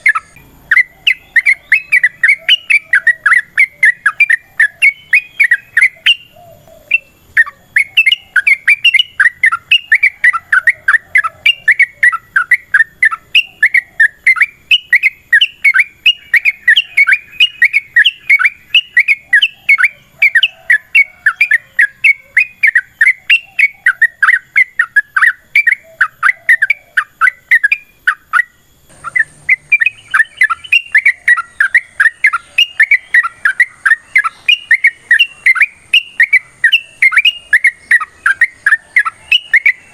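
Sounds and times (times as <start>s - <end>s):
bulbul chattering call: 0.0s - 39.9s.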